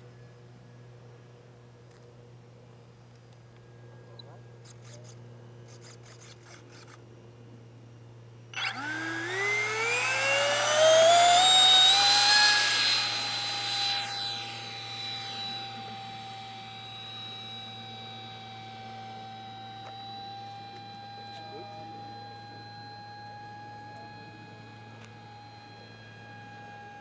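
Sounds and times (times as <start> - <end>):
electric ducted fan whine: 0.0 - 27.0.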